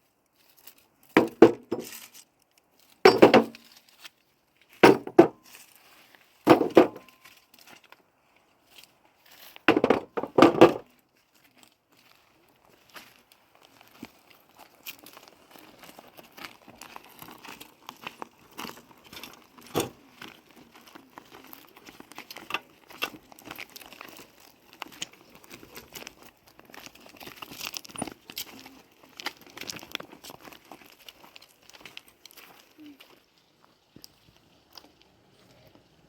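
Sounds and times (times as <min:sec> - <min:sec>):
crinkling and rustling: 0:00.0 - 0:36.0.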